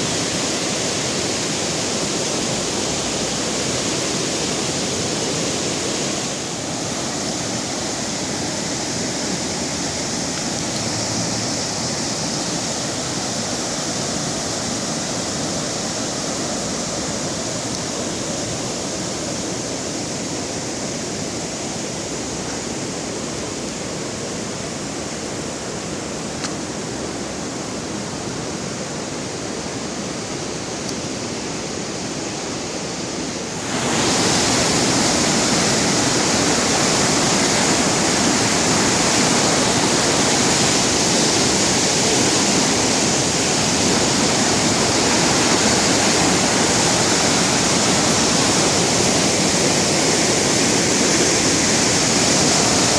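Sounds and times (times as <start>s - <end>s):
floodwater rushing: 0.0s - 52.9s.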